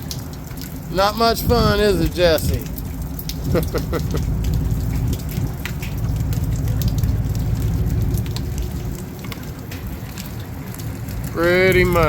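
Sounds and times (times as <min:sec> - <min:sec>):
heavy rain pouring: 0:00.0 - 0:12.0
raindrops ticking close by: 0:00.0 - 0:12.0.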